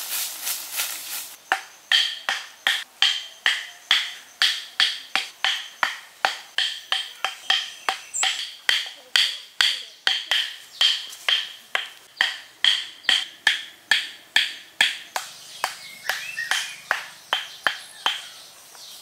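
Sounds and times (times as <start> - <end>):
hammer knocking wooden stakes: 1.5 - 18.4.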